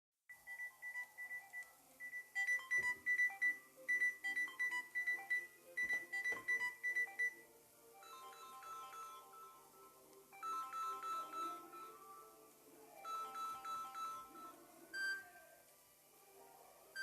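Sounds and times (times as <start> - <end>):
phone ringtone melody: 0.3 - 7.4, 8.0 - 12.4, 13.0 - 15.4
soft phone ringtone: 0.3 - 15.4.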